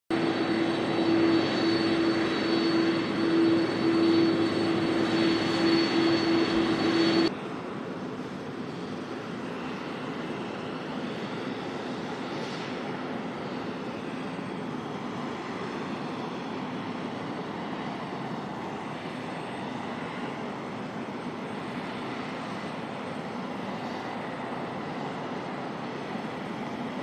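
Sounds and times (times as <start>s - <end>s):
jet engines running: 0.1s - 27.0s.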